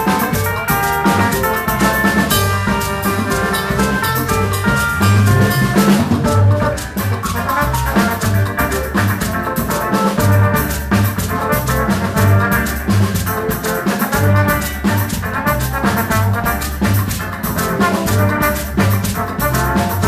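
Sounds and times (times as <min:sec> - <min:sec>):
bass line: 0:00.0 - 0:20.0
drum kit and hand percussion: 0:00.0 - 0:20.0
instrumental band playing: 0:00.0 - 0:20.0.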